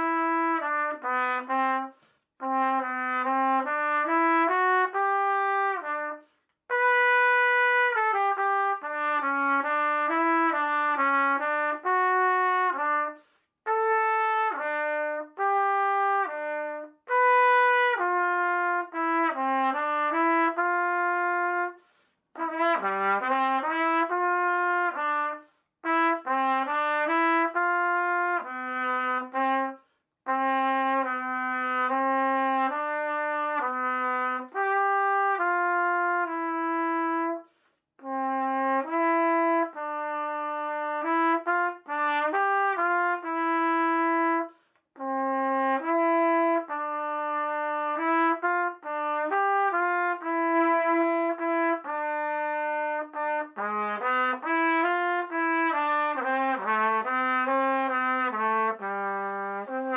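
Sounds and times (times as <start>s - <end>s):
slow trumpet melody: 0.0s - 59.9s.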